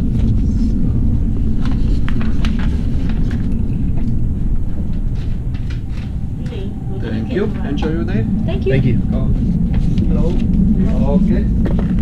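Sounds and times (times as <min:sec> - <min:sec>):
train rumbling in motion: 0:00.0 - 0:12.0.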